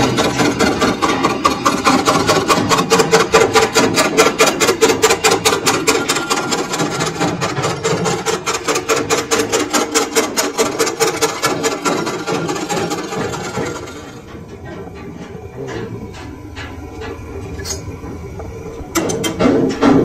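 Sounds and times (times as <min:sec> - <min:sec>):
lathe tool scraping spinning metal: 0:00.0 - 0:20.0.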